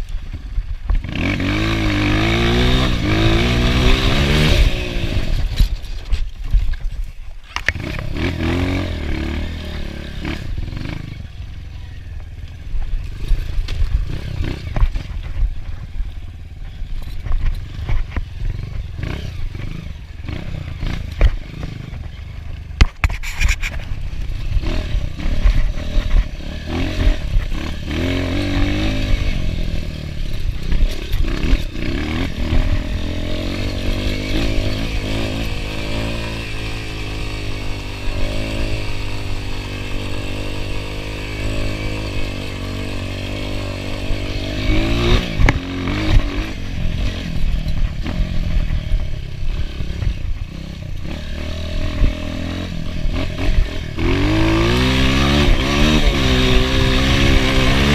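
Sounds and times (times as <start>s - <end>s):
dirt bike engine revving: 0.0s - 6.9s, 7.5s - 57.9s.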